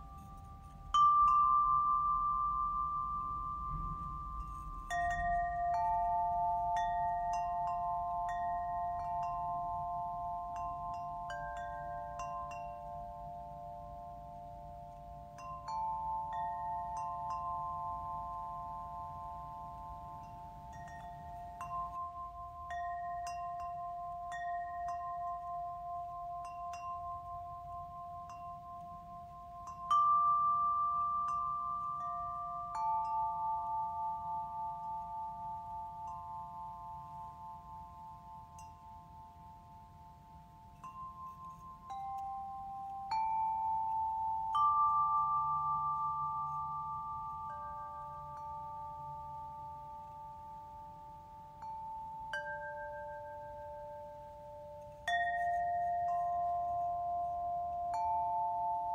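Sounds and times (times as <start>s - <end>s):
high tinkling chimes: 0.0s - 58.9s.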